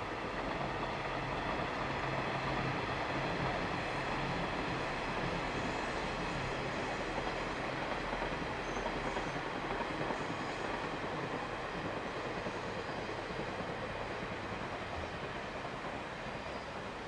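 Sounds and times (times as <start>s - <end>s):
diesel railcars rumbling past: 0.0s - 17.0s.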